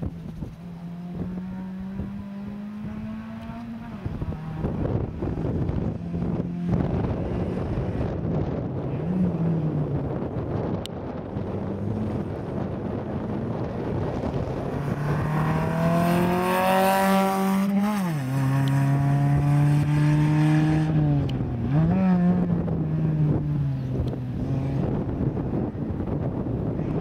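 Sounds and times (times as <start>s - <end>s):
rally car engine accelerating: 0.2s - 27.0s.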